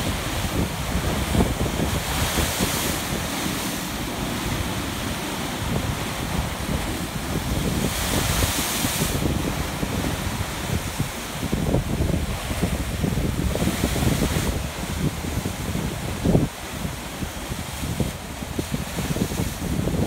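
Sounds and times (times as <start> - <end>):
surf breaking on rocks: 0.0 - 20.0
wind buffeting microphone: 0.0 - 20.0.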